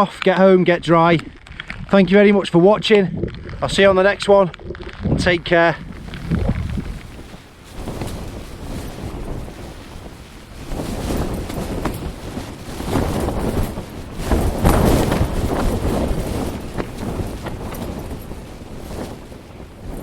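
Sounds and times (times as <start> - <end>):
wind gusting against microphone: 0.0 - 20.0.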